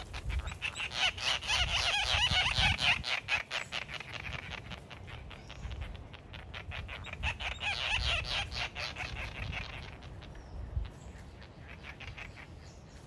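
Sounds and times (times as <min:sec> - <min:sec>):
terns chattering: 0:00.0 - 0:13.0.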